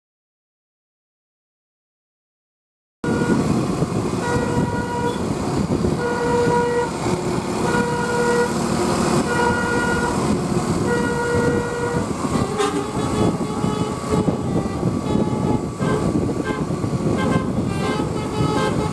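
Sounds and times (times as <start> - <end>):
bus horn playing a tune: 3.0 - 18.9
road and engine noise: 3.0 - 18.9.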